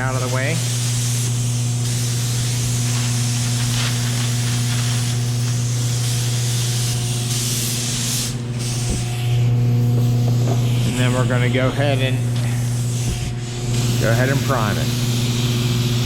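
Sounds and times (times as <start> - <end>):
spray gun hissing: 0.0 - 16.0
steady low hum: 0.0 - 16.0.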